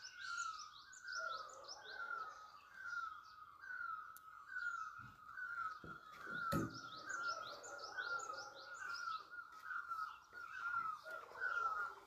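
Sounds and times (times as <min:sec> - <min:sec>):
high rising bird chirps: 0:00.0 - 0:12.0.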